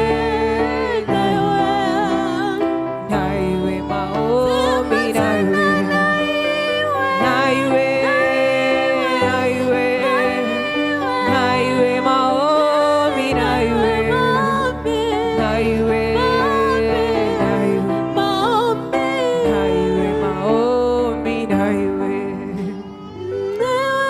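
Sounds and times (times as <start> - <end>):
instrumental accompaniment: 0.0 - 24.0
person singing long notes: 0.0 - 24.0.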